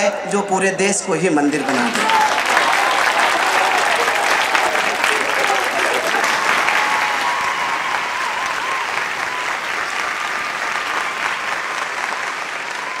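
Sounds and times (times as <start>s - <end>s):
audience applauding: 1.4s - 13.0s.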